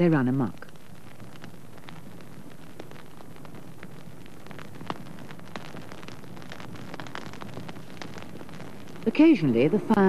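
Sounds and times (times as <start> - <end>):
fire crackling and popping: 0.0 - 10.0.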